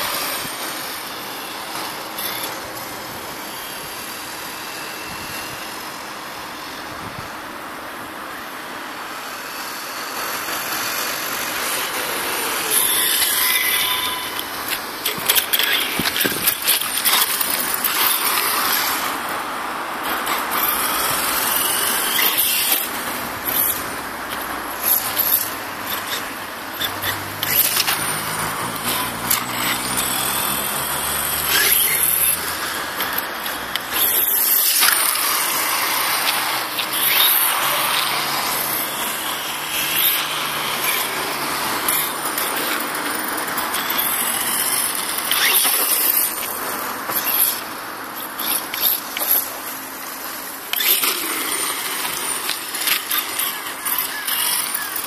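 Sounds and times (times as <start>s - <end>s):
rc truck motor and gears whining: 0.0s - 55.0s
tyres on grit: 0.0s - 55.0s.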